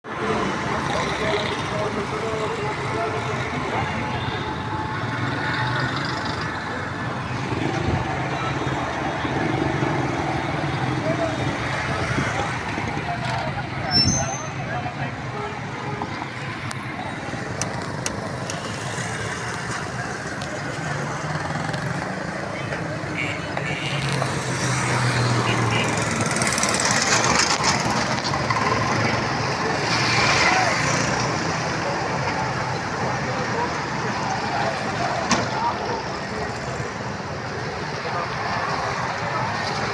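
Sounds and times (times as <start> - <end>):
road vehicle noise: 0.0 - 39.9.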